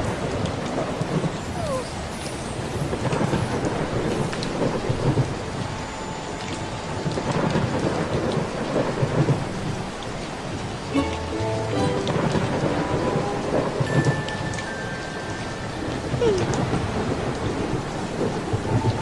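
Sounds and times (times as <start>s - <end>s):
rain falling: 0.0s - 19.0s
thunder rumbling: 0.0s - 19.0s.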